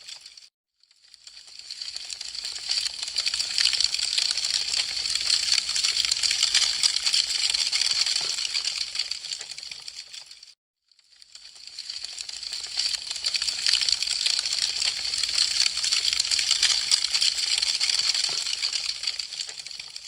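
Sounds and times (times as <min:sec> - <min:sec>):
wood fire crackling: 0:01.0 - 0:10.5, 0:11.2 - 0:20.0.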